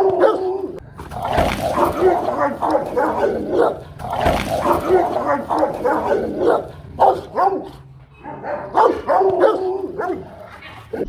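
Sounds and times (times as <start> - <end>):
dogs barking aggressively: 0.0 - 11.0.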